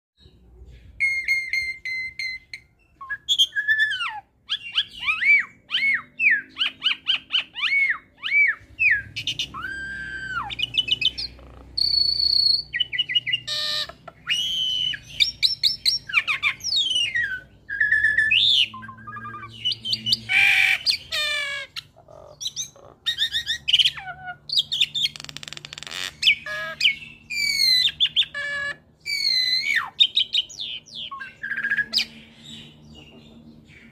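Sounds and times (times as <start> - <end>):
starling chattering song: 0.3 - 33.9.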